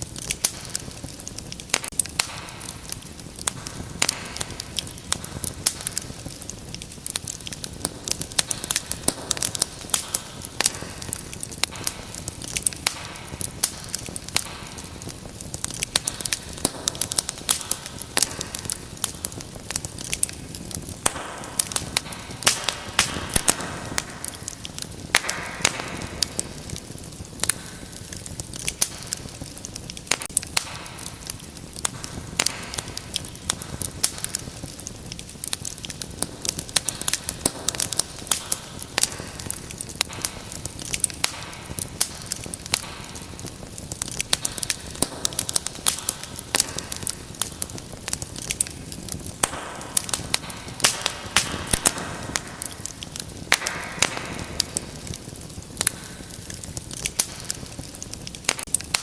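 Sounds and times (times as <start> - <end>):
fire burning low rush: 0.0 - 59.0
fire crackling and popping: 0.0 - 59.0.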